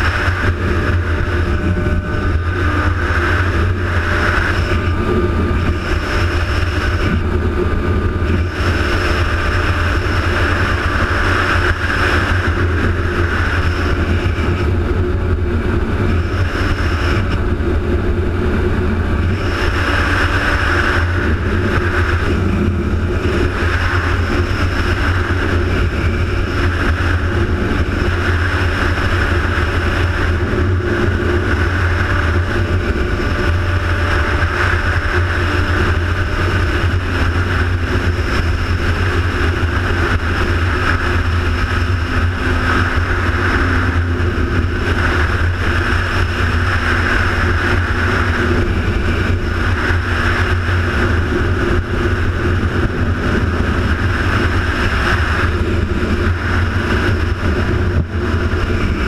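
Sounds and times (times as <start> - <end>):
vehicle engine drone: 0.0 - 59.0
wind rush: 0.0 - 59.0.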